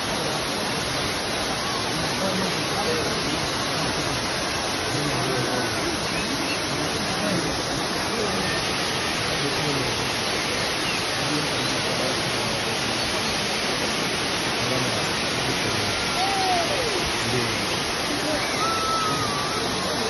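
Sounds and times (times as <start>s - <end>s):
faint voices: 0.0s - 20.0s
waterfall rushing: 0.0s - 20.0s.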